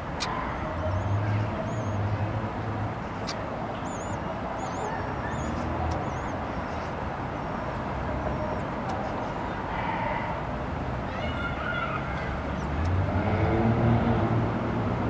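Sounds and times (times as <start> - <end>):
city background noise: 0.0 - 15.0.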